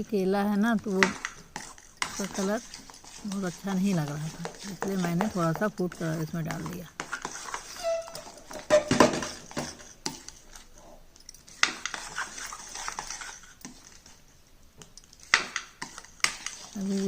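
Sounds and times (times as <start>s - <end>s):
spoon scraping a pan: 0.9s - 10.8s, 11.4s - 14.3s, 15.0s - 17.0s.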